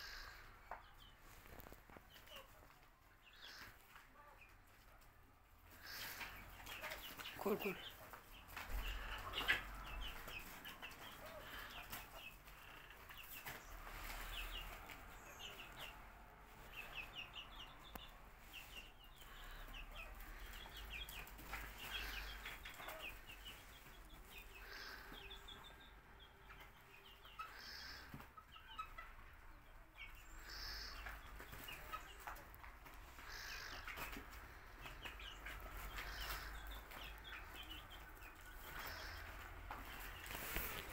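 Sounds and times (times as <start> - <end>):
chickens cheeping and clucking: 0.0 - 40.9.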